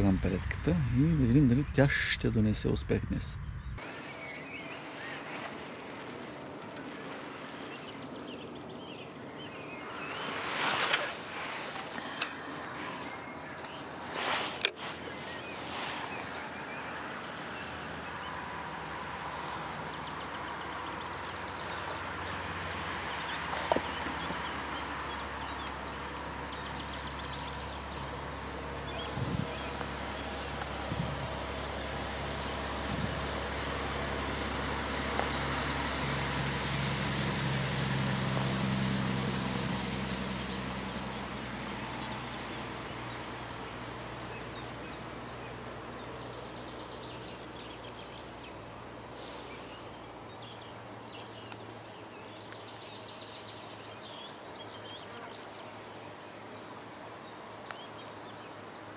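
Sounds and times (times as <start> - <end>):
vehicle engine hum: 3.5 - 58.9.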